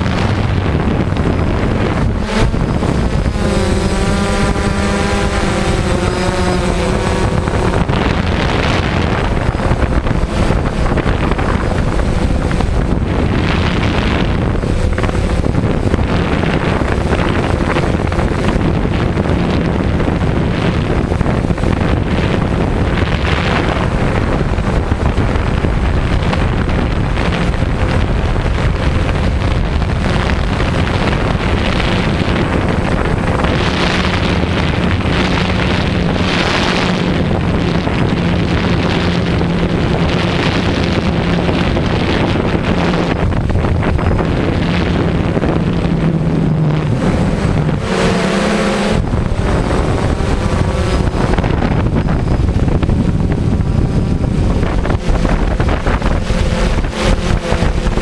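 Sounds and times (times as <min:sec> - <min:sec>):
drone motors and propellers: 0:00.0 - 0:58.0
wavering pitched hum: 0:00.0 - 0:58.0
wind buffeting: 0:00.0 - 0:58.0.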